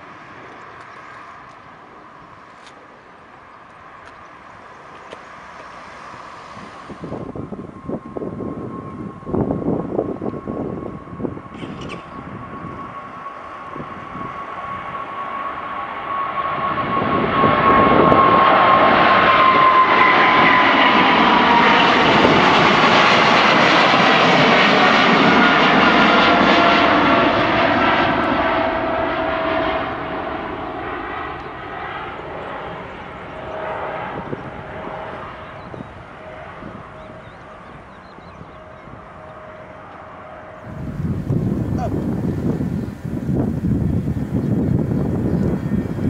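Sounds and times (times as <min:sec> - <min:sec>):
jet airliner passing overhead: 0:00.0 - 0:46.0
whining jet fan tone: 0:00.0 - 0:46.0.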